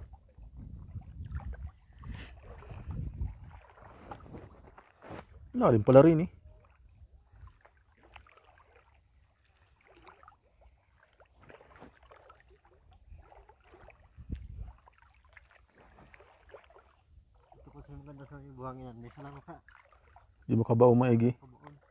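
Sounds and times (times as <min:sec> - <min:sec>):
shallow water sloshing: 0:00.0 - 0:21.9.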